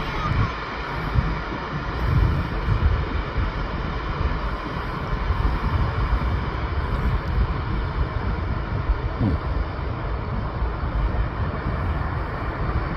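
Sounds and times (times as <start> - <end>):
jet engines at takeoff power: 0.0 - 12.9.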